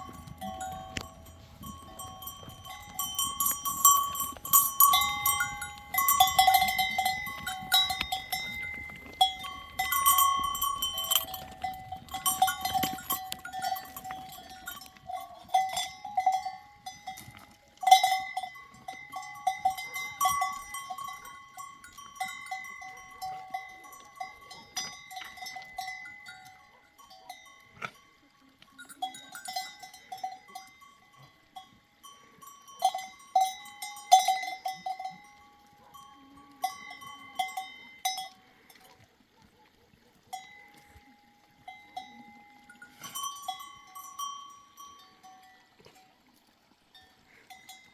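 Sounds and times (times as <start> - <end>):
livestock neck bells clanking: 0.0 - 39.1, 40.3 - 47.9.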